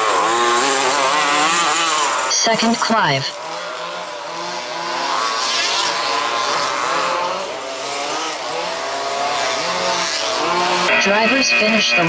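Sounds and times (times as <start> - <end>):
small petrol engines revving: 0.0 - 12.0.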